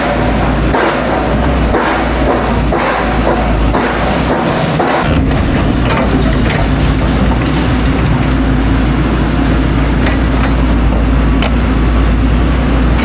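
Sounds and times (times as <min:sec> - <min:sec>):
large engine rumbling: 0:00.0 - 0:13.0.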